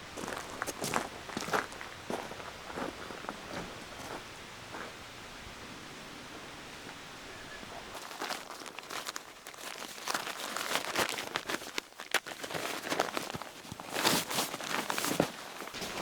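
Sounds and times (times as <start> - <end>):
rustling and crunching: 0.0 - 5.1, 6.9 - 16.0.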